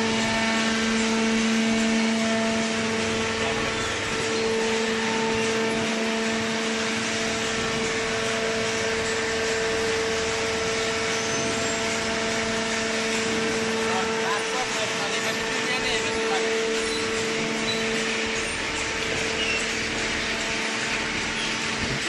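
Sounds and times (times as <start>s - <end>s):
electric motor and pump humming: 0.0s - 22.0s.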